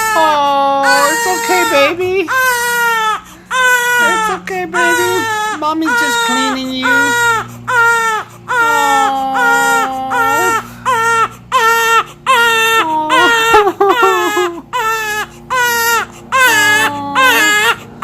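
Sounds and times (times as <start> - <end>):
baby crying hard: 0.0 - 18.0.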